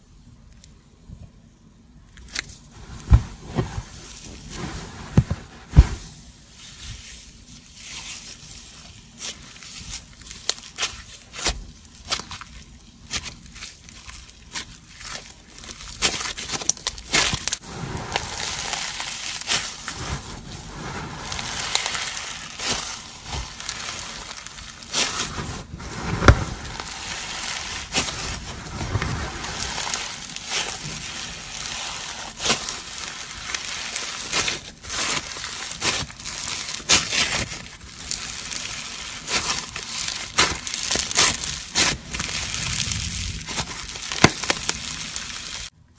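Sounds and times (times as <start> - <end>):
foam slime crackling and popping: 2.2 - 45.8.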